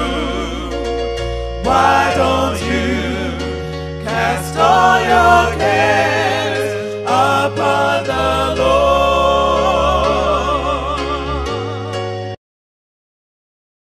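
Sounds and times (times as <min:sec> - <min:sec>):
person singing with vibrato: 0:00.0 - 0:12.1
sustained bass notes: 0:00.0 - 0:12.4.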